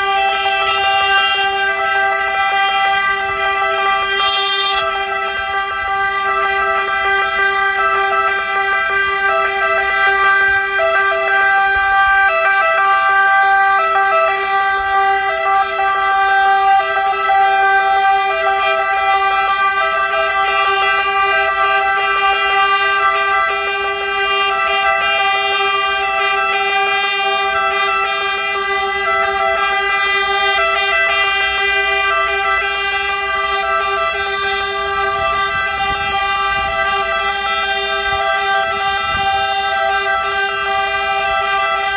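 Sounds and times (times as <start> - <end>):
fire engine horns and sirens: 0.0 - 41.9.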